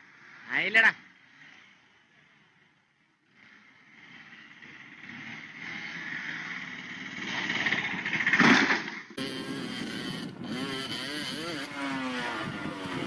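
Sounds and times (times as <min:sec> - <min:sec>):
motorcycle engine running: 0:01.3 - 0:08.4, 0:09.2 - 0:13.0.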